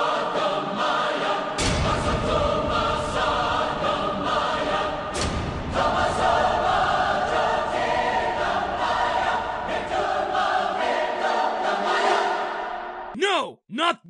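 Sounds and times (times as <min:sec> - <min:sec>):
choir singing: 0:00.0 - 0:13.2.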